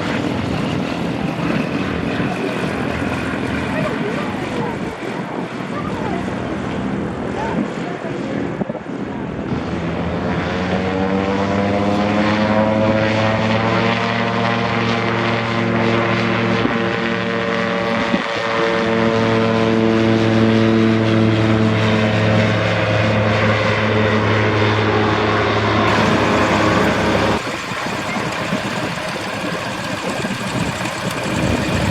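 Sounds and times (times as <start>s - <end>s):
propeller airplane engine droning: 0.0s - 31.9s.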